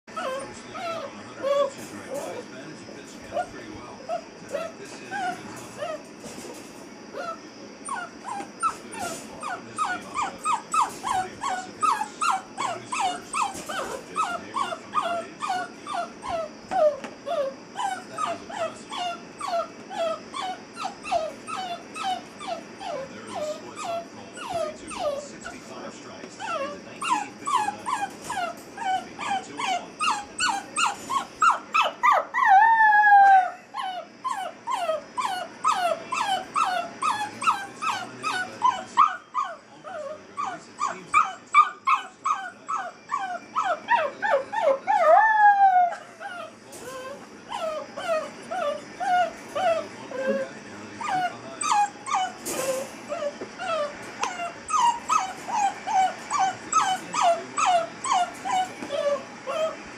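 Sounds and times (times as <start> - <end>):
puppy whining yelps: 0.1 - 2.4, 3.3 - 6.0, 7.1 - 25.6, 26.4 - 59.8
puppy howling: 0.1 - 2.5, 3.3 - 6.1, 7.1 - 59.9.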